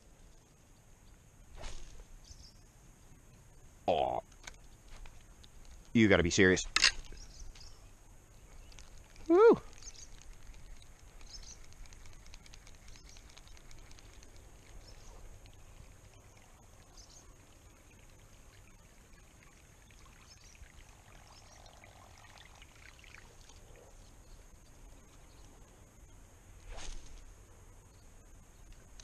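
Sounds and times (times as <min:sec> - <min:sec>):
soft chirps: 0:00.0 - 0:29.0
steady high-pitched hiss: 0:00.0 - 0:29.0
faint ticks: 0:02.2 - 0:03.6, 0:04.2 - 0:22.6, 0:23.2 - 0:29.0.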